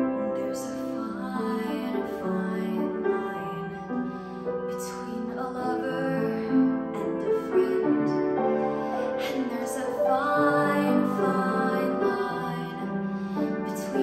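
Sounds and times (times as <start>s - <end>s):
piano accompaniment: 0.0s - 14.0s
woman singing: 0.0s - 14.0s.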